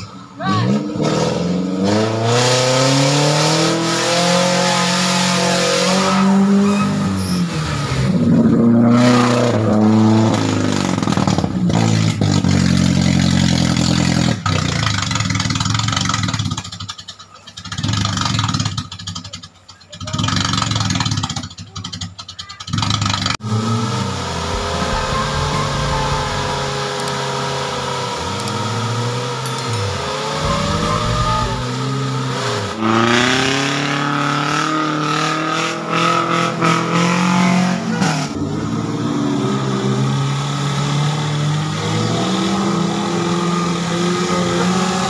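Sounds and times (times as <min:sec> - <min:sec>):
off-road engines revving: 0:00.0 - 0:45.0.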